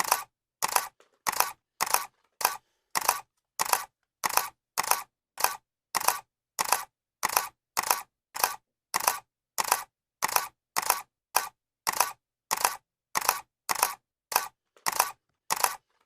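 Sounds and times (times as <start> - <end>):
camera shutter clicking: 0.0 - 15.8.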